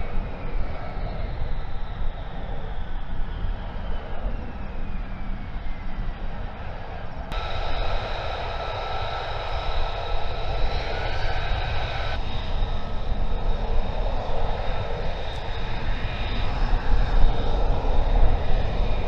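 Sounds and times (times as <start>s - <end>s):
jet engine whine: 0.0s - 19.0s.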